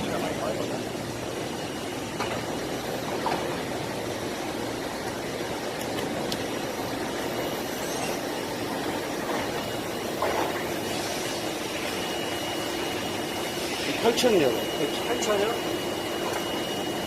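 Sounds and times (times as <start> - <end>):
machine spindle humming: 0.0 - 17.0.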